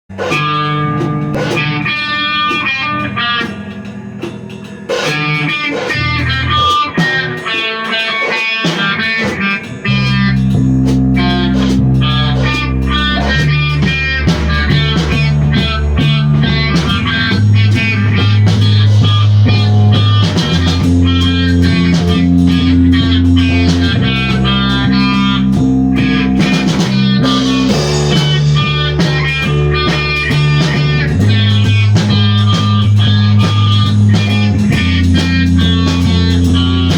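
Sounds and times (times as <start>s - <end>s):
drums: 0.0s - 36.9s
bass guitar low notes: 0.1s - 7.5s, 8.9s - 36.9s
electric guitar riff: 0.1s - 36.9s.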